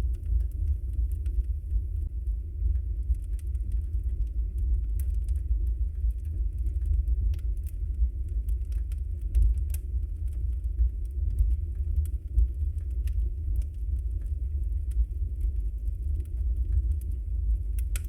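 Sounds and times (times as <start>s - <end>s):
fire crackling and popping: 0.0s - 18.0s
flames rumbling: 0.0s - 18.0s.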